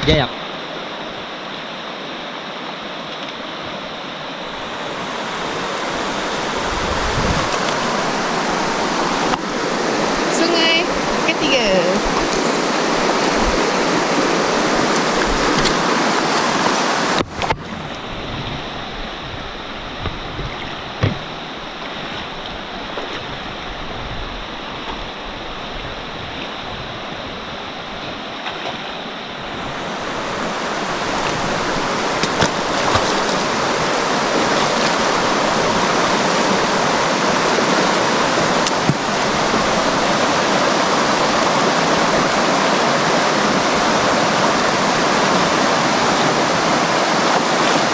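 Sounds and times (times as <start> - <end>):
fast-flowing stream: 0.0 - 47.9.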